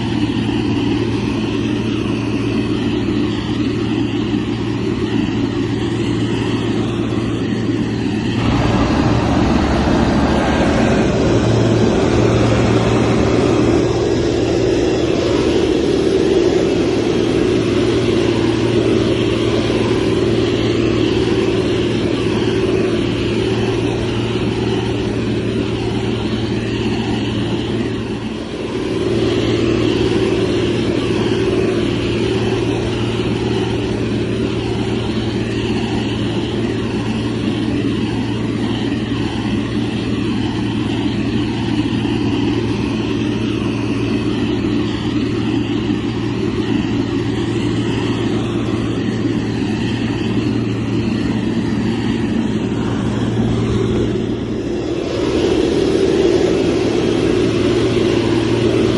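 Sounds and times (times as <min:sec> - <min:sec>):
diesel engine running under work: 0:00.0 - 0:58.9.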